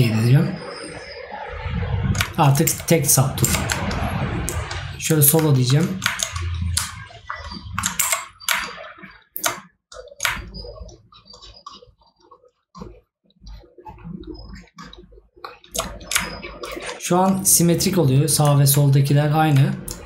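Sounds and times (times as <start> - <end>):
keyboard keys tapping: 2.1 - 20.0.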